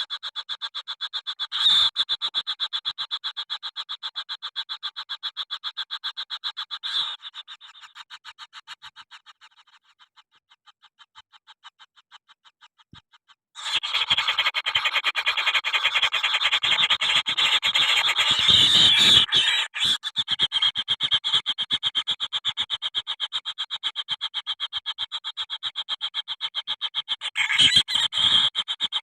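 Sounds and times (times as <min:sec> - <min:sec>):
bird chick chattering: 0:00.0 - 0:29.0.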